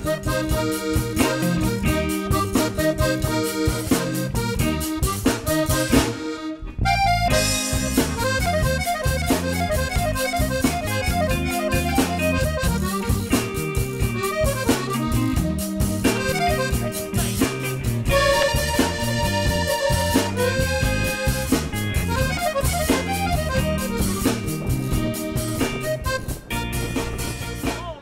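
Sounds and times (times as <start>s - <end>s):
instrumental music with beat: 0.0s - 28.0s.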